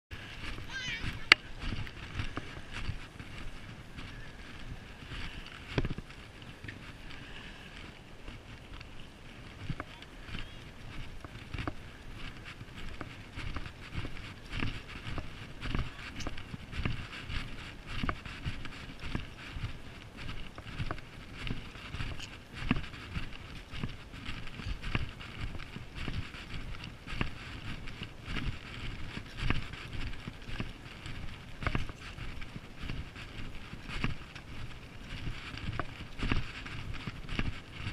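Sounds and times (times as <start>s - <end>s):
constant hiss: 0.1s - 37.9s
wind buffeting microphone: 0.1s - 37.9s
footsteps on concrete: 0.2s - 37.9s.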